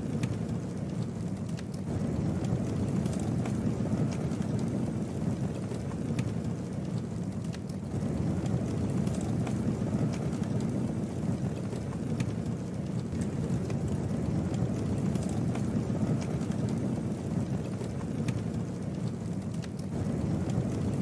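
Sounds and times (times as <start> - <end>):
campfire rushing: 0.0 - 21.0
fire crackles and pops: 0.0 - 21.0.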